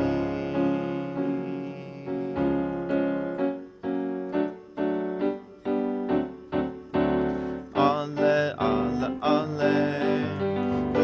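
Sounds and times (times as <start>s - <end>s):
piano playing repeated chords: 0.0s - 11.0s.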